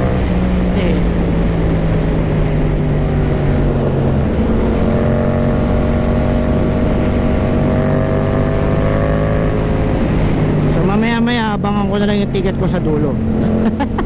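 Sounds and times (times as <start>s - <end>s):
motorcycle engine at highway speed: 0.0s - 14.0s
wind rush: 0.0s - 14.0s.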